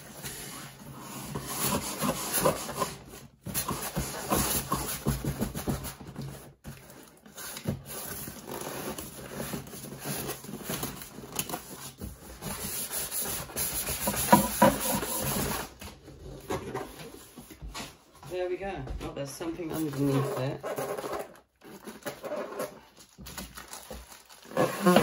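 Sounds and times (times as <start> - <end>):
cardboard and packaging scraping: 0.0 - 18.0, 19.5 - 25.0.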